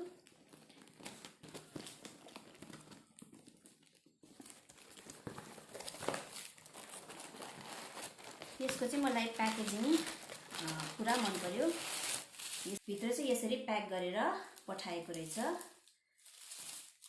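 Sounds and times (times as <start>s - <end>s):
packaging crinkling and rustling: 0.0s - 12.8s, 14.6s - 17.0s.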